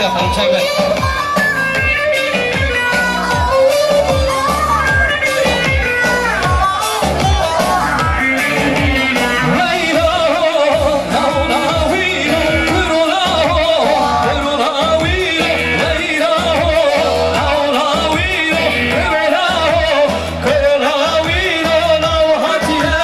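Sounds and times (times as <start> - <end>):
dance music over loudspeakers: 0.0 - 23.0
man singing into microphone: 2.5 - 23.0.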